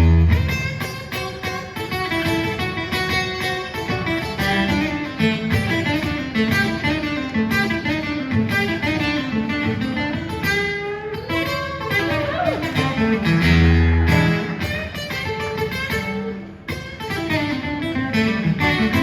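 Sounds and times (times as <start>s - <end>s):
acoustic blues guitar: 0.0s - 19.0s.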